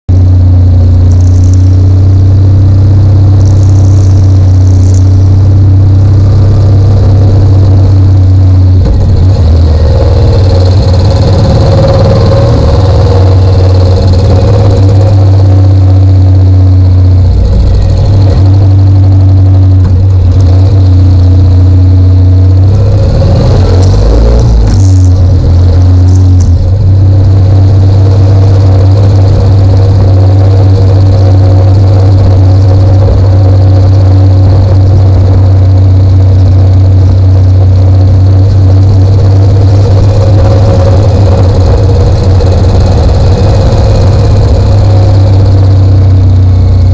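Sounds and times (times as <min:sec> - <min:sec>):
motorcycle engine revving: 0:00.1 - 0:46.9.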